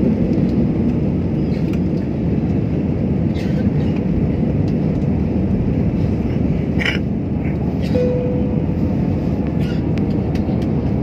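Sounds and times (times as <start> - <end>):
aeroplane engines rumbling: 0.0 - 11.0
rushing air: 0.0 - 11.0.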